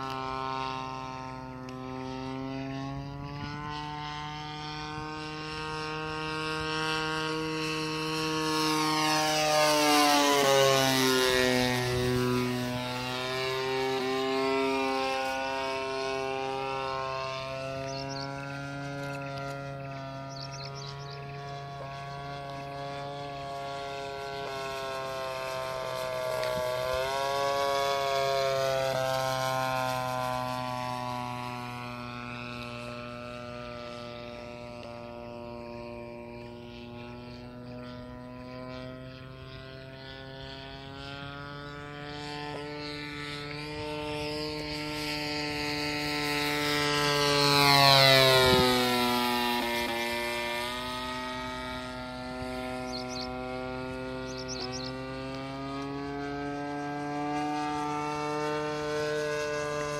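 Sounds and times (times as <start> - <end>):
model airplane engine and propeller: 0.0 - 59.9.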